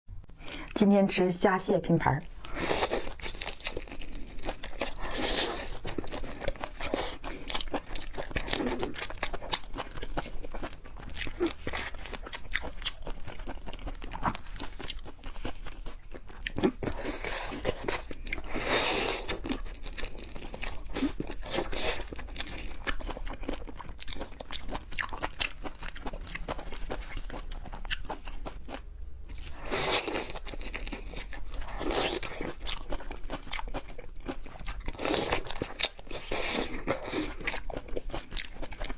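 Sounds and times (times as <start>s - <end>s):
wet chewing: 2.3s - 38.9s.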